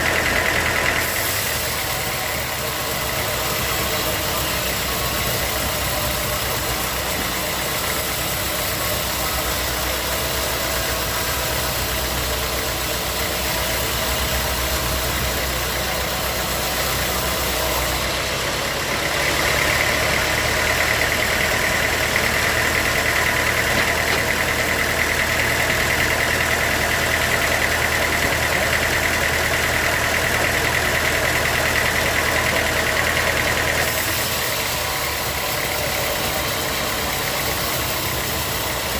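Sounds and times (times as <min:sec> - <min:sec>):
saw high whine: 0:00.0 - 0:38.9
sawmill machinery running: 0:00.0 - 0:38.9.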